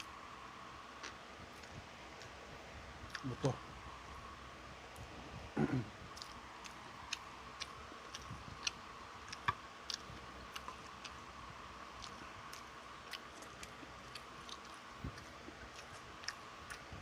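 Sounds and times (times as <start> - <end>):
faint steady hum: 0.0 - 17.0
person chewing: 0.8 - 4.0, 4.9 - 17.0.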